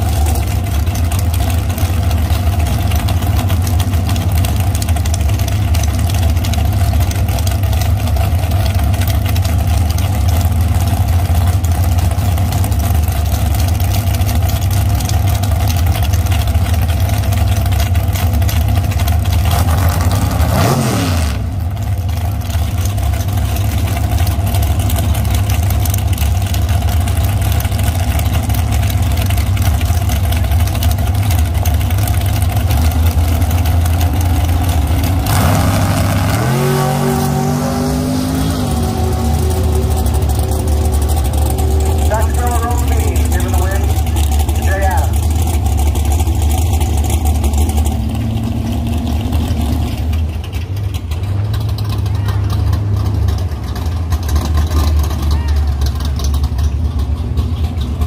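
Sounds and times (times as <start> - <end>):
drag racing engines rumbling: 0.0 - 58.0.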